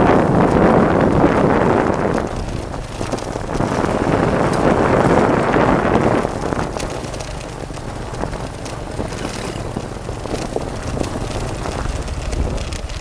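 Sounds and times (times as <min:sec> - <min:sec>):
motorbike engine running: 0:00.0 - 0:13.0
wind buffeting microphone: 0:00.0 - 0:13.0
knocks from bumpy road: 0:00.4 - 0:13.0.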